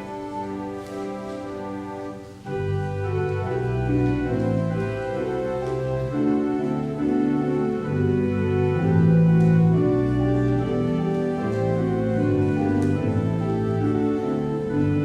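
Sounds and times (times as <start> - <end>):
organ chords over bass line: 2.5 - 15.0.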